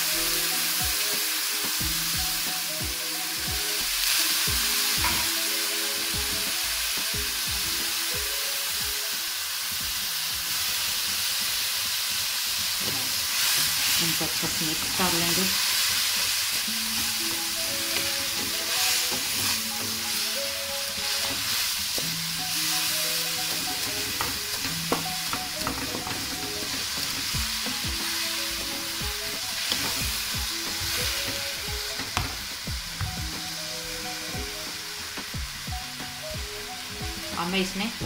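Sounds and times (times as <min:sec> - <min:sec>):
noodles sizzling in a pan: 0:00.0 - 0:38.0
soft background melody: 0:00.0 - 0:38.0.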